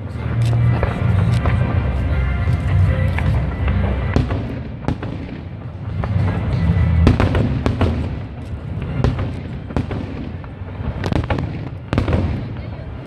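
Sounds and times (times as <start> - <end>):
low rumble: 0.0 - 12.6
fireworks bangs and crackles: 0.0 - 13.0
music playing: 0.0 - 13.0.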